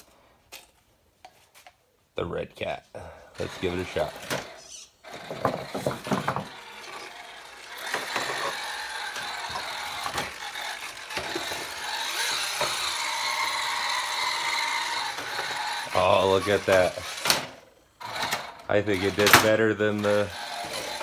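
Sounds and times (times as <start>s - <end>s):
electric motor whining: 3.4s - 21.0s.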